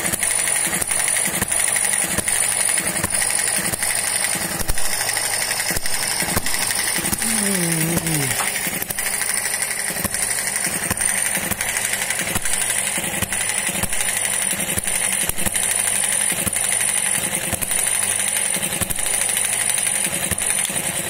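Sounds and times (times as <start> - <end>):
model engine clattering: 0.0 - 21.0.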